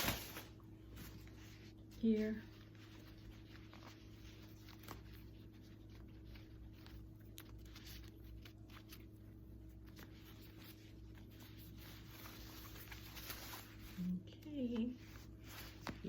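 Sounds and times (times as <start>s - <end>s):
low steady hum: 0.0s - 16.0s
packaging rustling and crinkling: 0.0s - 16.0s.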